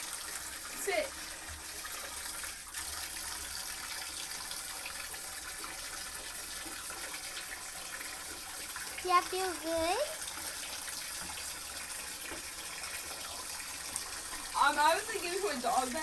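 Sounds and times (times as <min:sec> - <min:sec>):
water pouring into bathtub: 0:00.0 - 0:16.0.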